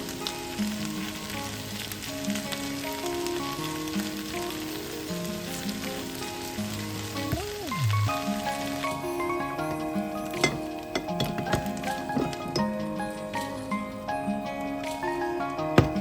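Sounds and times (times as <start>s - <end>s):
background music: 0.0s - 16.0s
food sizzling in a pan: 0.0s - 16.0s.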